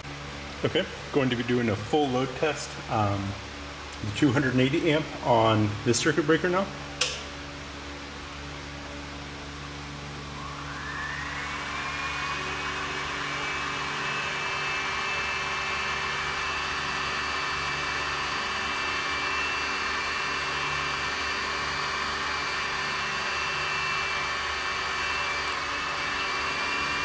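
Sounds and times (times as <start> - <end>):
cooling fans whirring with whine: 0.0 - 27.0.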